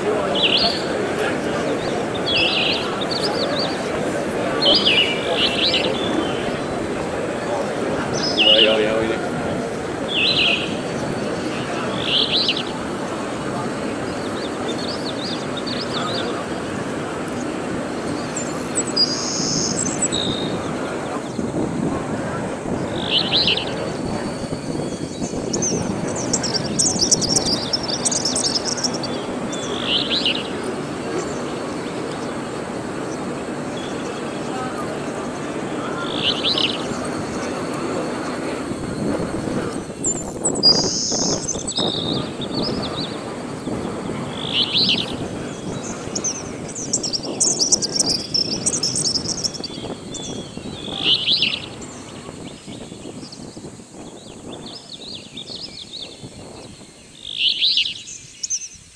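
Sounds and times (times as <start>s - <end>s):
low outdoor din: 0.0s - 58.9s
low street background noise: 0.0s - 58.9s
small birds chirping: 0.0s - 58.9s.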